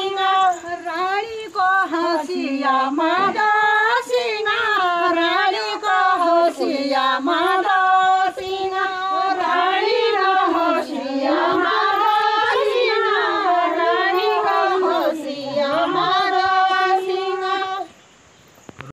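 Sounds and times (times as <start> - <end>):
women singing in unison: 0.0 - 18.1.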